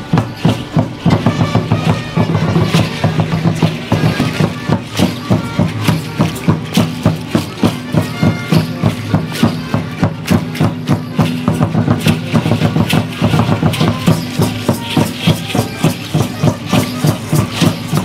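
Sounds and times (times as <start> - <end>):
ankle rattles and bells shaking: 0.0 - 18.0.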